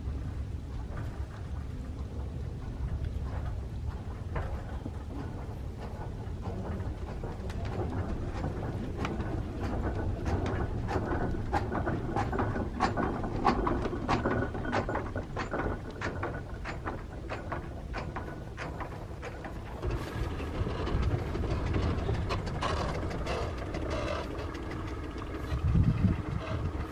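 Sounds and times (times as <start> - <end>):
train rumbling on rails: 0.0 - 26.9
train wheels clicking and knocking: 4.2 - 26.9.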